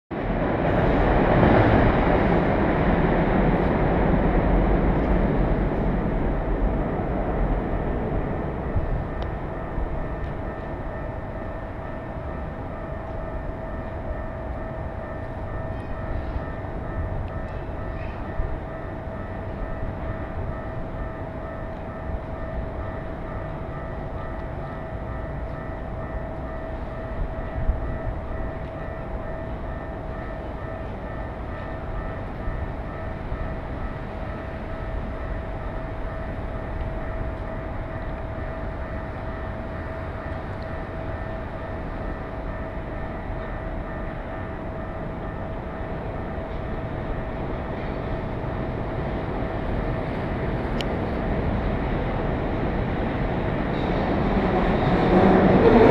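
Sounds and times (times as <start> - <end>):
constant background hum: 0.1 - 55.9
train rumbling on tracks: 0.1 - 55.9.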